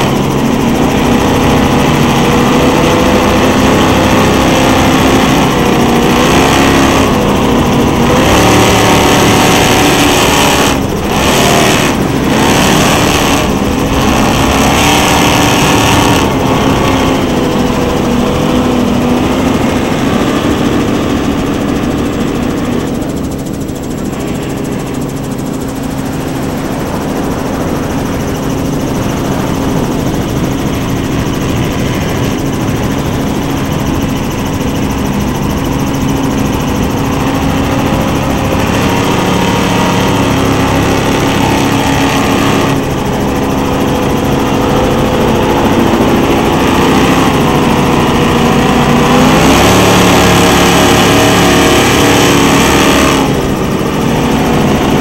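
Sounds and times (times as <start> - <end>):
powerboat engines droning: 0.0 - 55.0.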